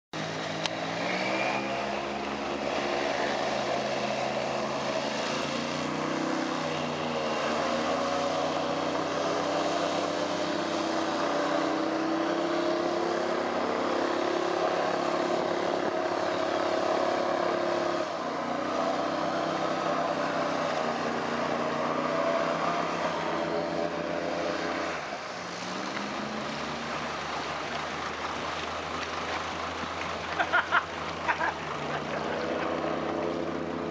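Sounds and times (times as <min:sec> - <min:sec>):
airboat engine and propeller: 0:00.2 - 0:33.9.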